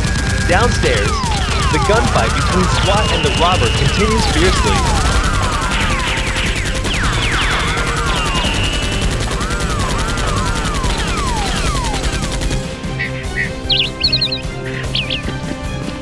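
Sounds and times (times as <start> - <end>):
falling whistles: 0.0 - 12.2, 12.8 - 15.3.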